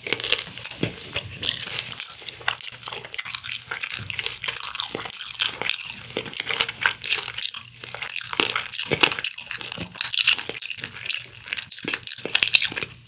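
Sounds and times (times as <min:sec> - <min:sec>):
chewing crispy fried chicken: 0:00.0 - 0:13.0.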